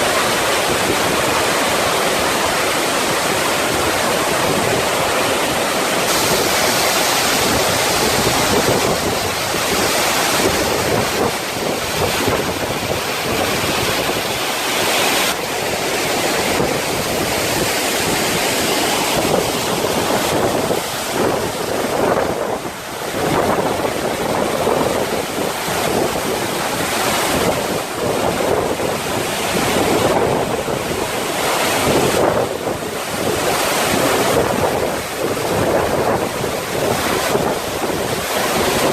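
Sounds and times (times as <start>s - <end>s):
waterfall roaring: 0.0s - 38.9s
wind buffeting microphone: 0.0s - 38.9s.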